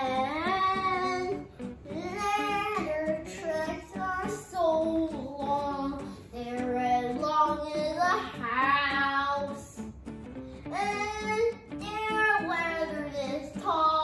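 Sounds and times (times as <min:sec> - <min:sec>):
boy singing: 0:00.0 - 0:09.8, 0:10.7 - 0:14.0.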